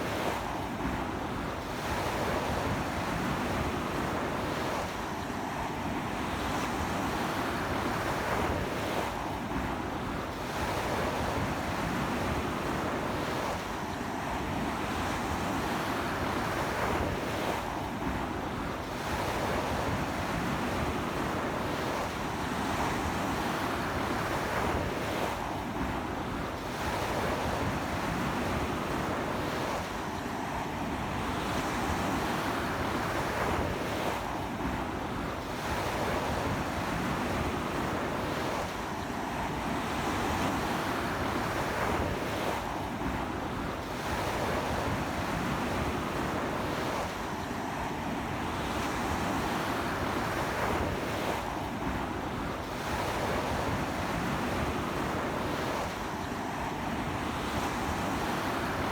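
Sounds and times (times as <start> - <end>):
ocean surf breaking on beach: 0.0 - 58.9
strong sea wind: 0.0 - 58.9.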